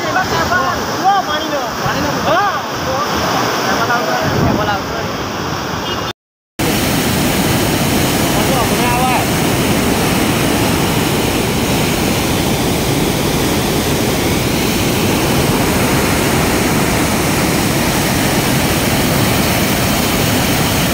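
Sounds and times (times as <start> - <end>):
river rushing roar: 0.0 - 20.9.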